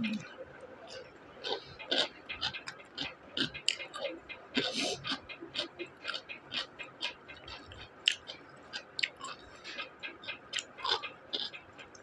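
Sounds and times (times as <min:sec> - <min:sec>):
crunchy chewing: 0:00.0 - 0:12.0
wet mouth clicks: 0:00.9 - 0:11.5.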